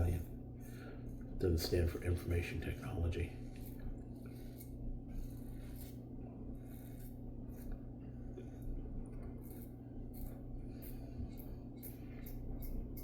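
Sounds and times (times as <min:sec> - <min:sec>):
razor scraping stubble: 0:00.0 - 0:13.0.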